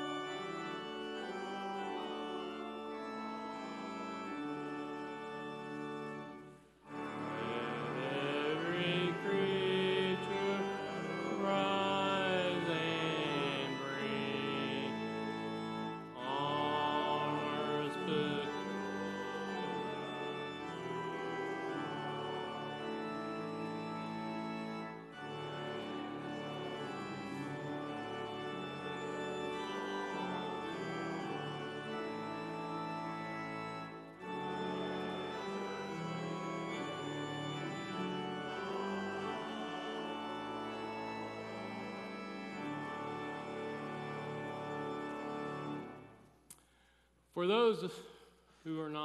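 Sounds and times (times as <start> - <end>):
church organ playing chords: 0.0 - 48.0.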